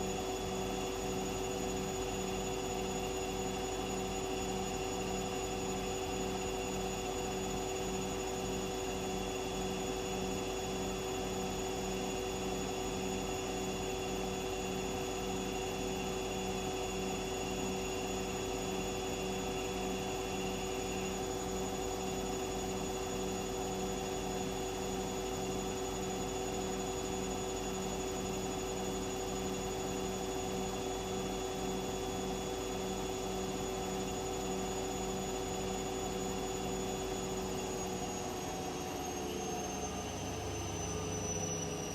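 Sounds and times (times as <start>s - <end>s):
washing machine motor hum: 0.0s - 41.9s.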